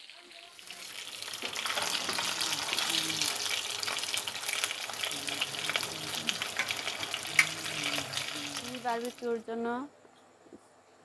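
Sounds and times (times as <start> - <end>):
fish sizzling in oil: 0.0 - 9.4.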